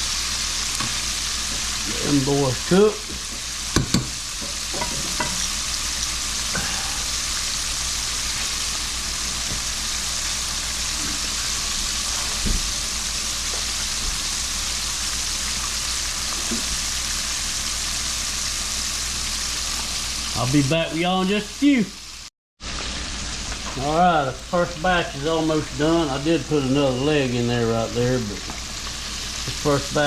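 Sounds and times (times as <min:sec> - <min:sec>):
food deep-frying in hot oil: 0:00.0 - 0:30.0.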